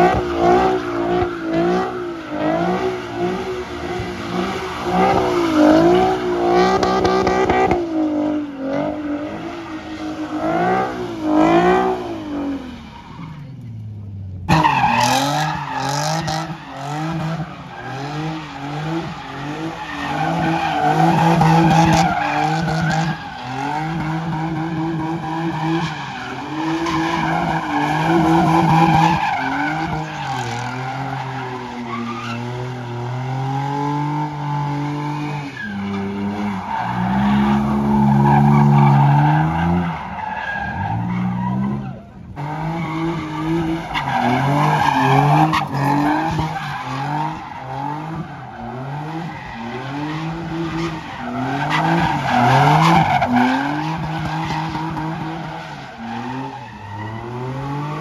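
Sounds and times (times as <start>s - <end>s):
car tires screeching: 0.0s - 58.0s.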